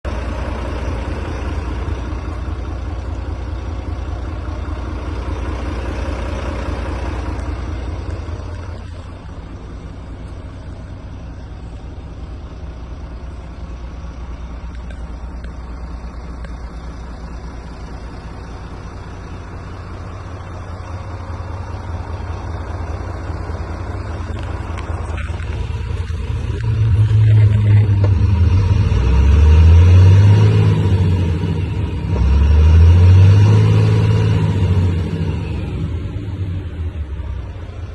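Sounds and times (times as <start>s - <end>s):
diesel truck engine rumbling: 0.0s - 37.9s.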